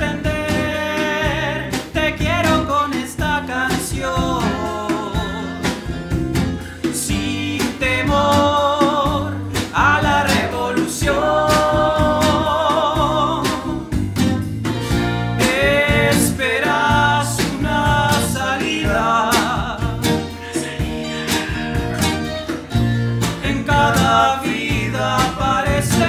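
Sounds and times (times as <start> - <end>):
person singing with vibrato: 0.0 - 6.0, 6.7 - 14.0, 15.3 - 26.0
folk band playing: 0.0 - 26.0.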